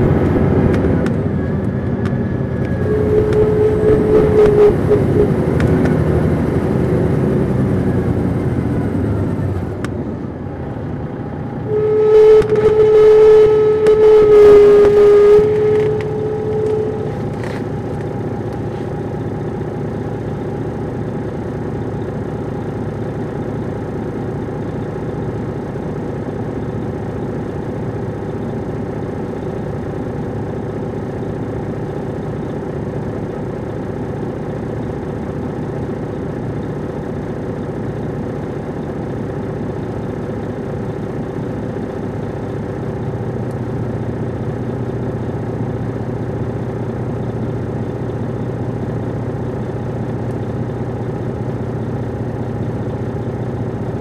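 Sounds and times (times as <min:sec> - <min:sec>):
diesel bus engine running: 0:00.0 - 0:54.0.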